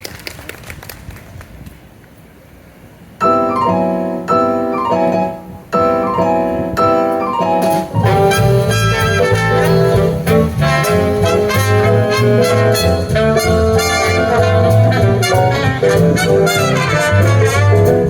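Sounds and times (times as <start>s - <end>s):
jazz band with bass and horns: 3.2s - 18.0s
jazz piano figure: 3.2s - 18.0s.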